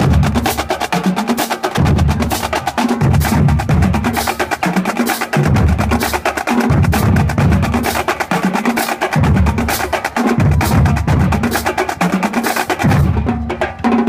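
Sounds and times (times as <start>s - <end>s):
rapid snare drum strokes: 0.0s - 14.0s.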